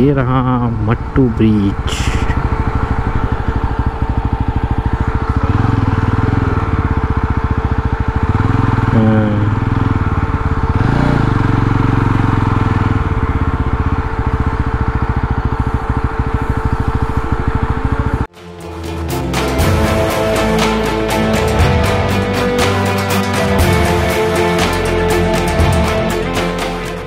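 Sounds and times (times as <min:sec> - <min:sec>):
motorcycle engine cruising: 0:00.0 - 0:27.0.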